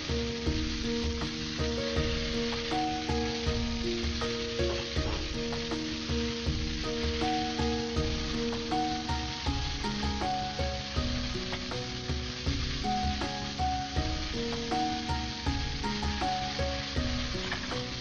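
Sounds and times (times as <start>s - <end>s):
background music with low beat: 0.0s - 18.0s
chicken sizzling in oil: 0.0s - 18.0s.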